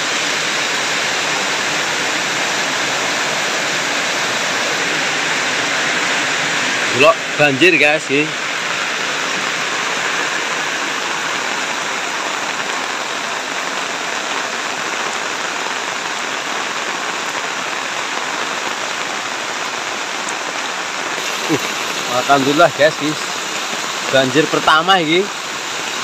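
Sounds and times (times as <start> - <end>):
heavy rain on road: 0.0 - 26.0.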